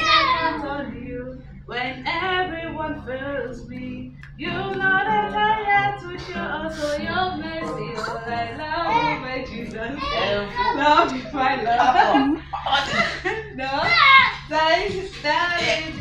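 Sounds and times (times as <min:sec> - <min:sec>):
woman singing unaccompanied: 0:00.0 - 0:16.0.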